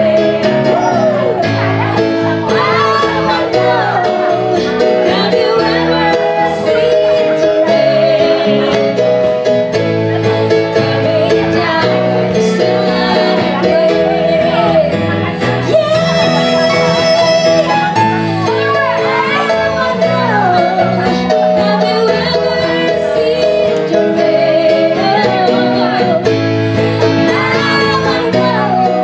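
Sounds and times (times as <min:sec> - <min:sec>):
women singing into microphones: 0:00.0 - 0:09.2, 0:10.2 - 0:29.0
keyboard and guitar accompaniment: 0:00.0 - 0:29.0.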